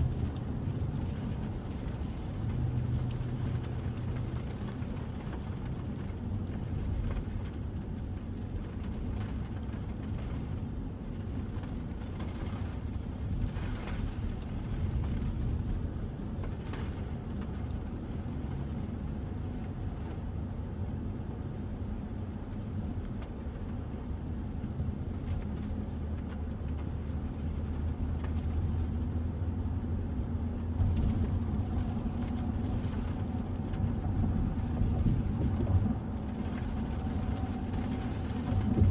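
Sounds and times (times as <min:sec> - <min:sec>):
pickup road and engine drone: 0:00.0 - 0:38.9.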